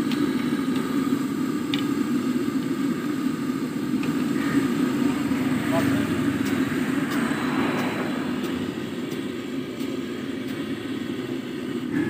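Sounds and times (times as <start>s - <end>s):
deep fryer roaring: 0.0s - 12.0s
hot oil hissing: 0.0s - 12.0s.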